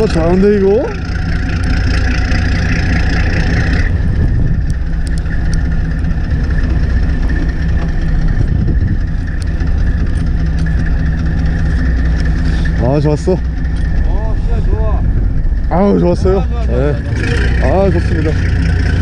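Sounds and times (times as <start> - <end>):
boat engine idling: 0.0 - 19.0
high whine: 0.0 - 19.0.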